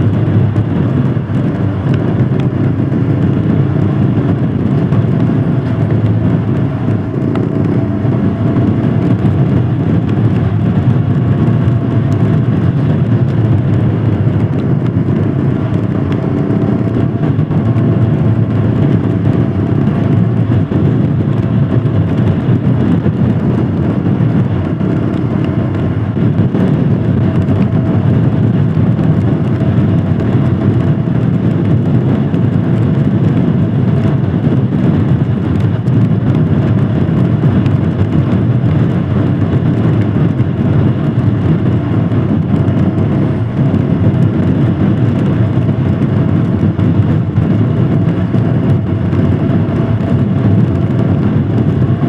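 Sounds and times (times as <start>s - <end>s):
motorcycle engine running: 0.0s - 52.0s
road and wind noise: 0.0s - 52.0s.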